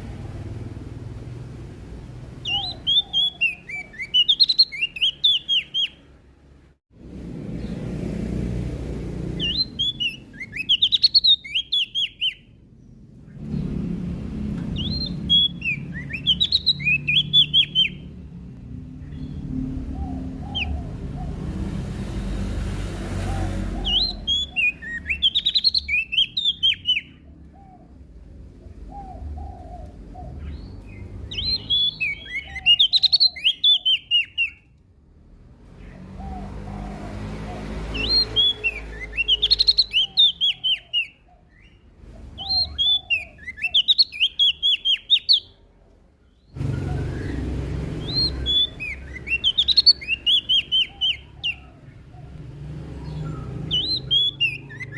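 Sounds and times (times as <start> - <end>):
songbird high chirping: 2.2 - 6.2, 9.2 - 34.8, 35.7 - 54.9.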